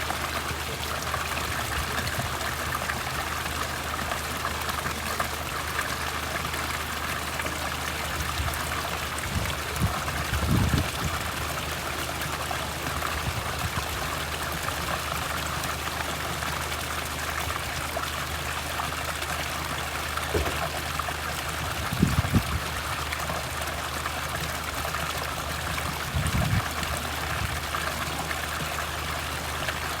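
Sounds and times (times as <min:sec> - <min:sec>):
water trickling: 0:00.0 - 0:30.0.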